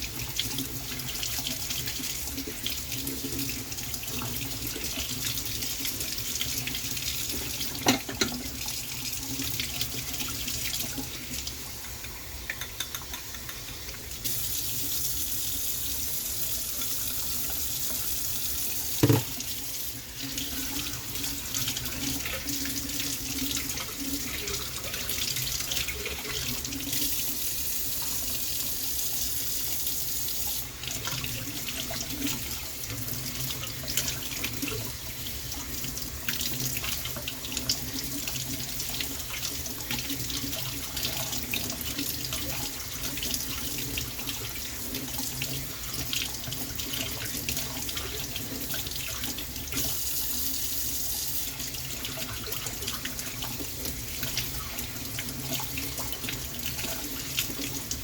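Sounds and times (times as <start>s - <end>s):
water running from a tap into a sink: 0.0s - 58.0s.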